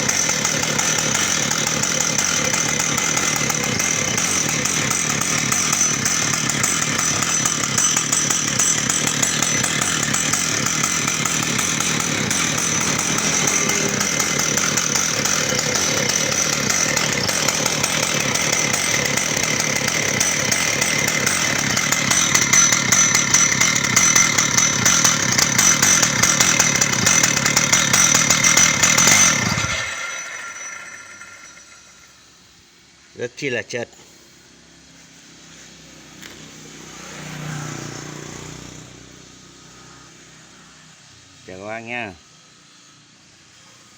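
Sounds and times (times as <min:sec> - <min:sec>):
chainsaw running: 0:00.0 - 0:33.2, 0:34.4 - 0:43.9.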